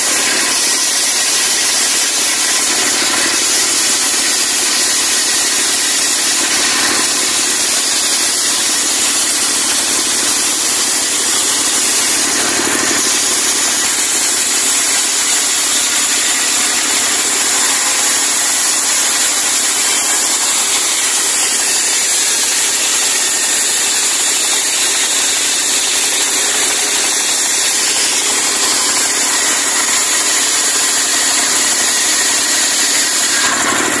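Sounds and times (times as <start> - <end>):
saw blade whining through timber: 0.0 - 34.0.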